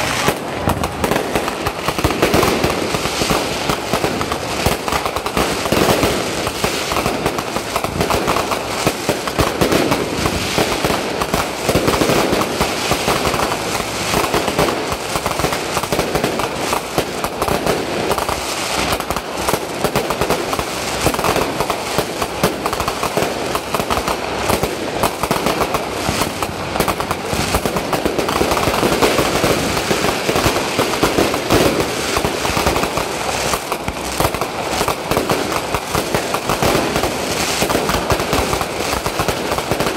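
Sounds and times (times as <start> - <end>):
fireworks crackling bangs: 0.0 - 39.9.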